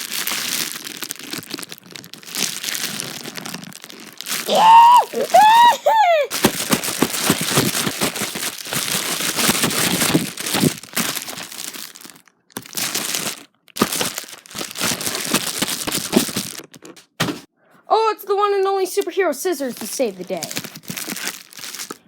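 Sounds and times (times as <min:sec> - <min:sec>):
mail packaging crinkling: 0:00.0 - 0:17.5, 0:19.6 - 0:22.0.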